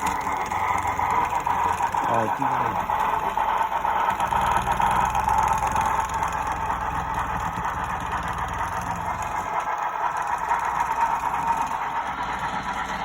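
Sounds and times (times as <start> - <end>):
model train motor hum: 0.0 - 13.0
wheels clicking on rails: 0.0 - 13.0.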